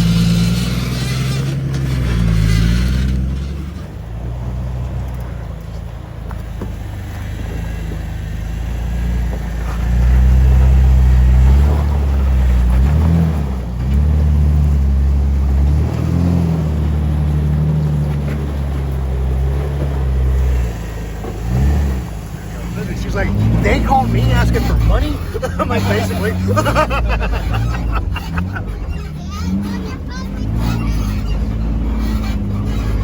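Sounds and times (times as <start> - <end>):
engine revs: 0.0 - 33.0
off-road vehicle engine working: 0.0 - 33.0.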